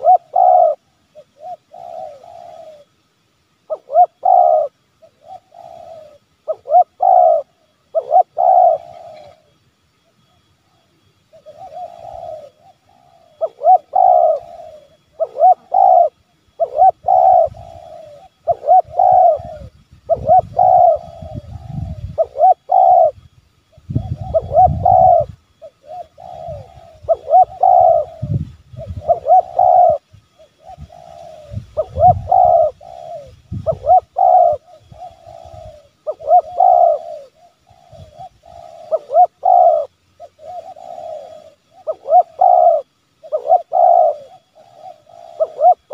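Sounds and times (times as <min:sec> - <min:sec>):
dove cooing: 0:00.0 - 0:03.0, 0:03.6 - 0:09.6, 0:10.2 - 0:45.9.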